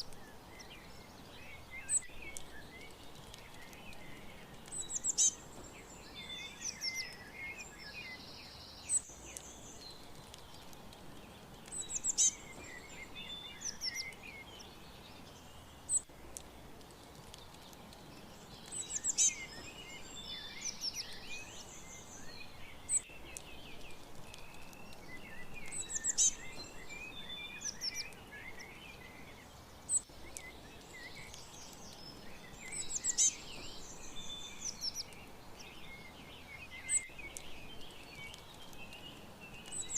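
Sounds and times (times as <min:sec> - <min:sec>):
background hiss: 0:00.0 - 0:39.9
songbirds chirping: 0:00.0 - 0:39.9.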